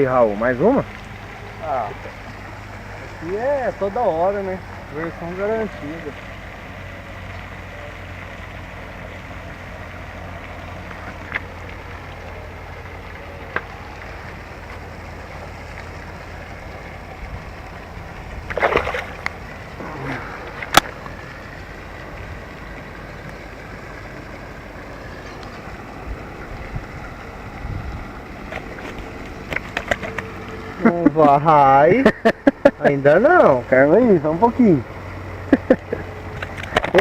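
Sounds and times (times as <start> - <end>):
small splashes: 0.0 - 31.4
water ambience: 0.0 - 37.0.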